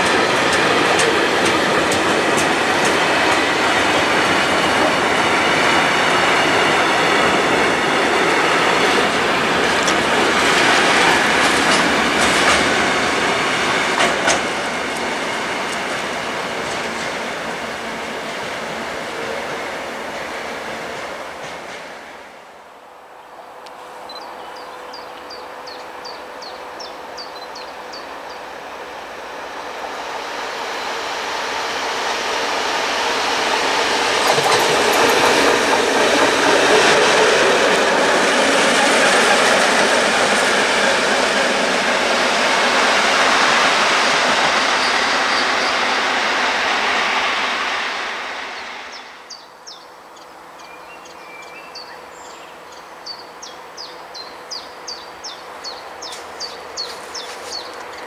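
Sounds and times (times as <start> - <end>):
train wheel noise: 0.0 - 22.6, 23.6 - 58.0
diesel locomotive engine: 0.0 - 58.0.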